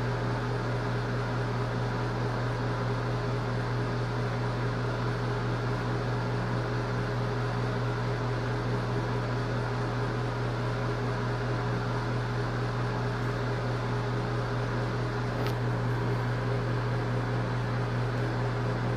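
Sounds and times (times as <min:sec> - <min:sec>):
ventilation fan hum: 0:00.0 - 0:18.9.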